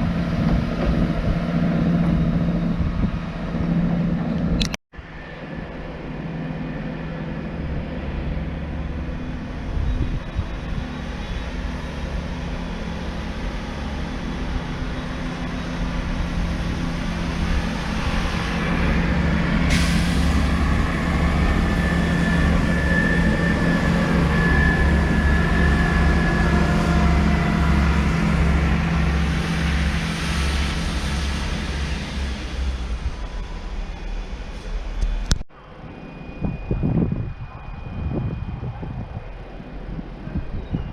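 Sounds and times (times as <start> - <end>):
diesel train engine drone: 0.0 - 40.9.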